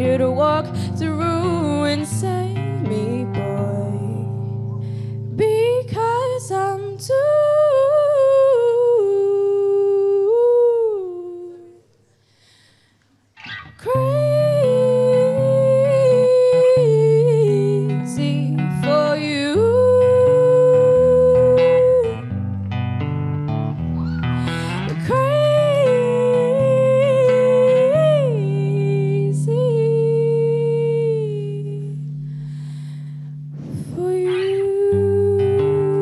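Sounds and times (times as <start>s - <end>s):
woman singing a slow ballad: 0.0s - 11.9s, 13.8s - 22.4s, 24.2s - 32.8s, 33.6s - 36.0s.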